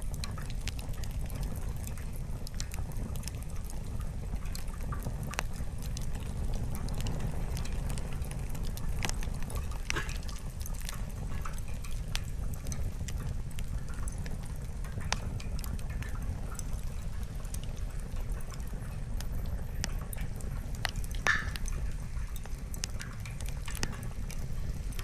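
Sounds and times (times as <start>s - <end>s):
firewood crackling and popping: 0.0s - 25.0s
low fire rumble: 0.0s - 25.0s.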